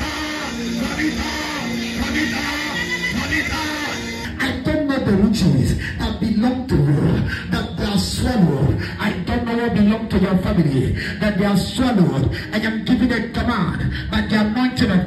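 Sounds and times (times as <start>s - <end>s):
background music held notes: 0.0s - 13.7s
person praying loudly: 0.0s - 15.0s.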